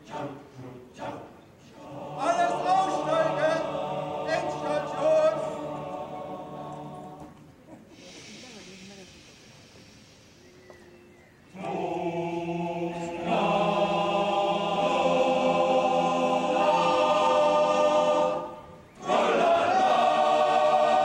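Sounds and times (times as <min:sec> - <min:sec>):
men's choir singing: 0:00.0 - 0:07.4, 0:11.5 - 0:21.0.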